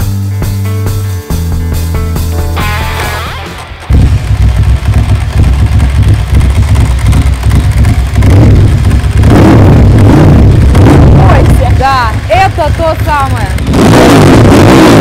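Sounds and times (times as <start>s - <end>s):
motorcycle engine starting and idling: 1.7s - 13.8s
engine throttle blips: 2.6s - 15.0s.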